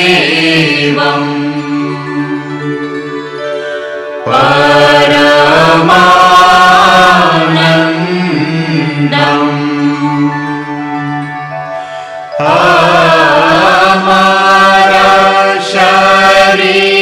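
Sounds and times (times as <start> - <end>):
person chanting: 0.0 - 3.6, 4.3 - 17.0
steady drone: 0.0 - 17.0.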